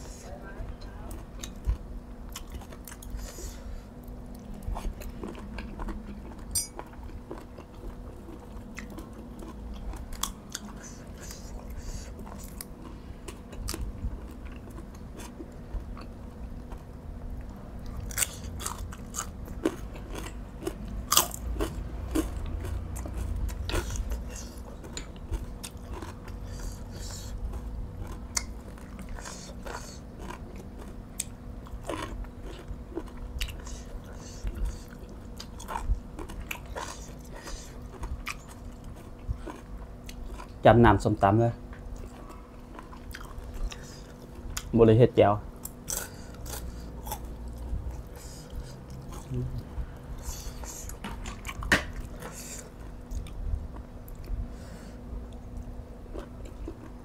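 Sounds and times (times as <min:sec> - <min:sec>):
person chewing and crunching: 0:01.0 - 0:41.0, 0:41.6 - 0:44.8, 0:45.5 - 0:57.0.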